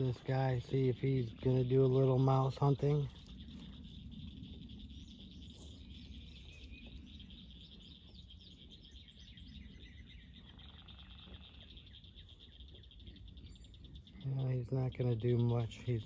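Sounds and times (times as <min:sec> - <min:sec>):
faint frog chorus trilling: 0:00.0 - 0:16.0
low rumble: 0:00.0 - 0:16.0.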